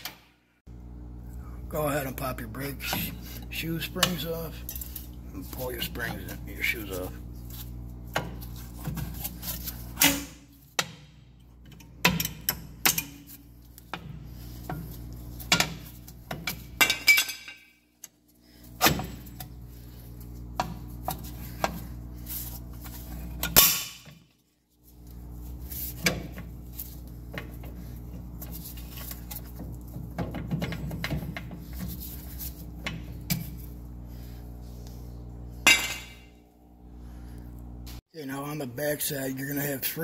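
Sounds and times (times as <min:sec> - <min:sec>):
steady low hum: 0:00.7 - 0:40.0.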